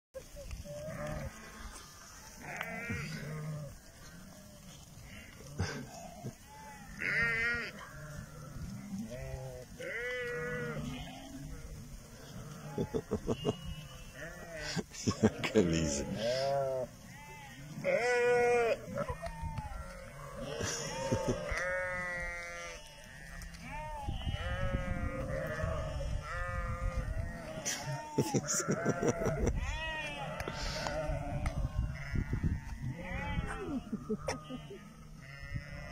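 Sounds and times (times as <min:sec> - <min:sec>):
sheep bleating: 0:00.6 - 0:35.9.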